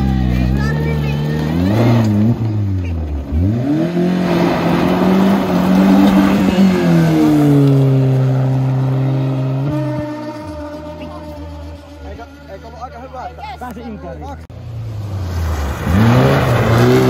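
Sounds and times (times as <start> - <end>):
rally car engine revving: 0.0 - 17.0
gravel spraying from wheels: 0.1 - 12.5, 14.6 - 17.0.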